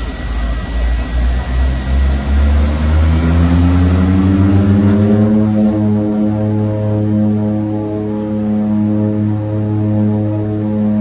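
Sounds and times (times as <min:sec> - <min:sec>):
high turbine whine: 0:00.0 - 0:11.0
turboprop engines droning: 0:00.0 - 0:11.0.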